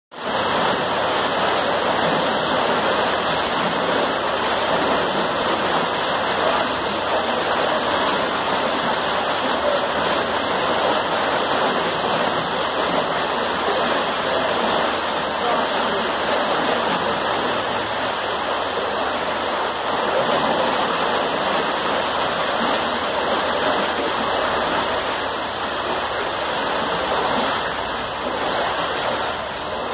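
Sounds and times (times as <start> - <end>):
water gushing through lock gate: 0.1 - 29.9.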